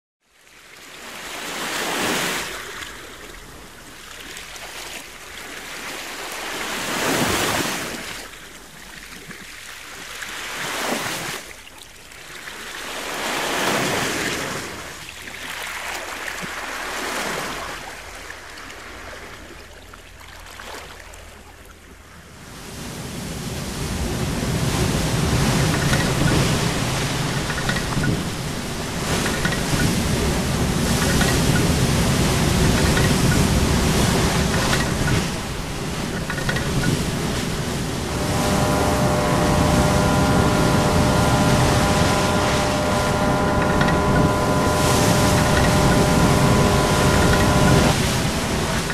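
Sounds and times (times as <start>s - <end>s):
sea waves washing in: 0.4s - 48.9s
rush of surf: 0.8s - 8.9s, 9.9s - 11.6s, 12.2s - 19.5s, 22.3s - 48.9s.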